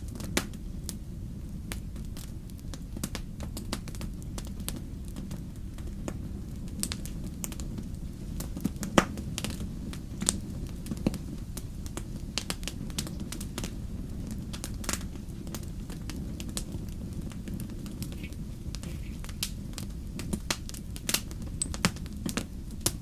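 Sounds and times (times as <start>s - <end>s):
campfire rumble: 0.0s - 23.0s
wood crackling and popping: 0.0s - 23.0s.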